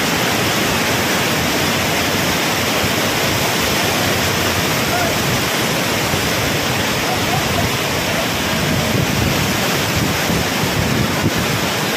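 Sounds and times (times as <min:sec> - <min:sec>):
steady rushing noise: 0:00.0 - 0:11.9.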